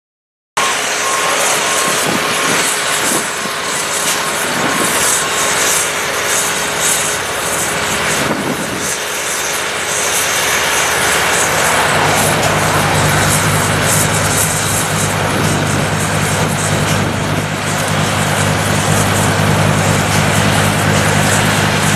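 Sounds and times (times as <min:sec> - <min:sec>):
snowblower engine running: 0:00.6 - 0:21.9.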